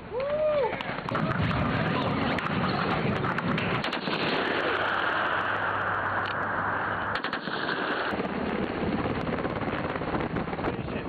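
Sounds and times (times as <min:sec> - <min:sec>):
helicopter engine and rotor noise: 0:01.8 - 0:11.0.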